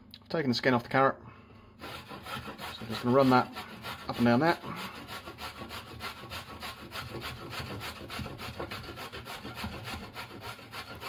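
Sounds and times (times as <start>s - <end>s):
carrot grating on metal grater: 1.8s - 11.0s.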